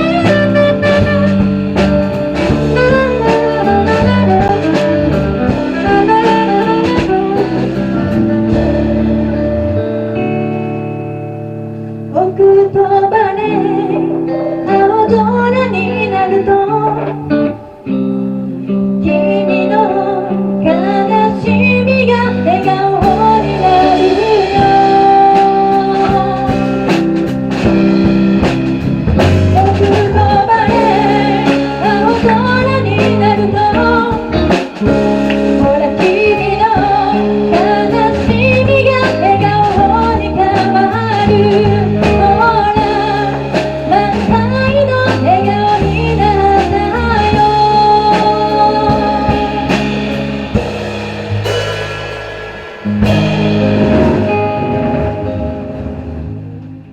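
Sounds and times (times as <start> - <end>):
live band playing: 0.0 - 56.9
wavering lead melody: 0.0 - 56.9.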